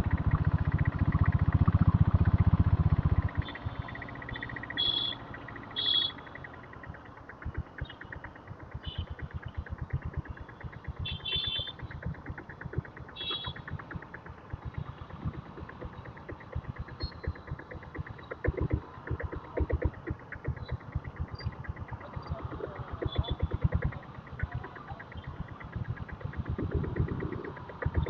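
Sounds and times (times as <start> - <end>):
motorcycle engine chugging: 0.0 - 28.0.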